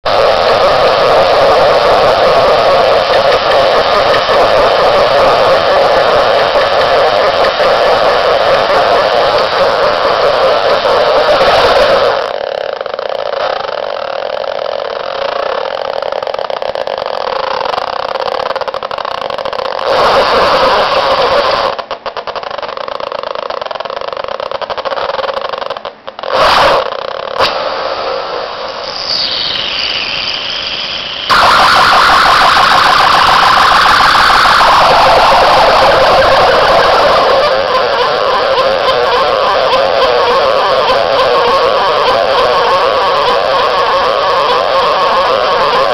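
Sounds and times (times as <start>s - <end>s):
harsh electronic tones: 0.0s - 45.9s
rapidly pulsing tone: 0.0s - 45.9s
falling electronic sweep: 0.1s - 21.8s, 26.3s - 45.9s.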